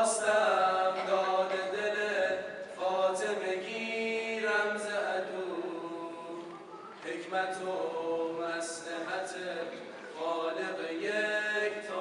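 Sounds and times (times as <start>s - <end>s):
men chanting a cappella: 0.0s - 12.0s.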